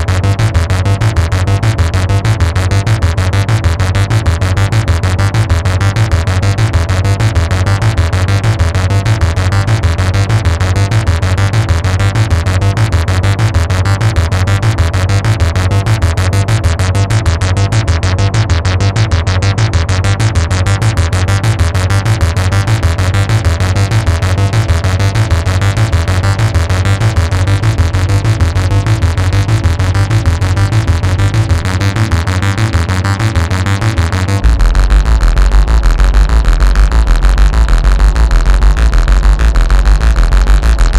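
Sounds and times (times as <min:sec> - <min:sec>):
heavy bass pulse: 0:00.0 - 0:40.9
synthesizer fast repeating sequence: 0:00.0 - 0:40.9.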